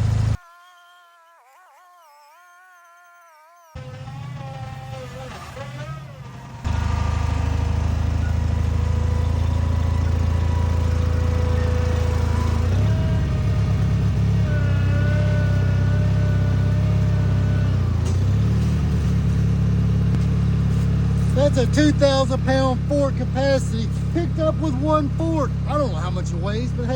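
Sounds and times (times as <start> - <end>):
backhoe engine running hard: 0.0 - 0.4, 3.8 - 26.9
wavering hydraulic whine: 0.0 - 26.9.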